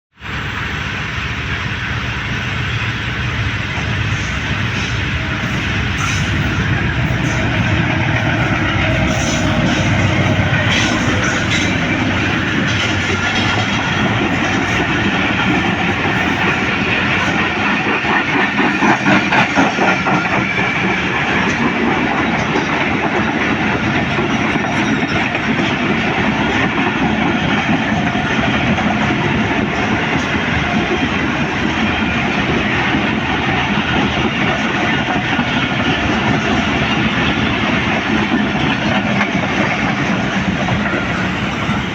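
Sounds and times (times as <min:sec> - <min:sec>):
train wheels rumbling: 0:00.2 - 0:41.9
clickety-clack over rail joints: 0:02.3 - 0:41.9.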